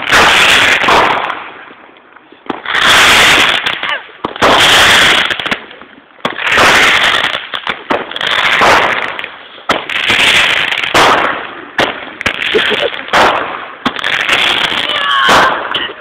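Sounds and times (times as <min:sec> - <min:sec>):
roman candles firing: 0:02.5 - 0:16.0.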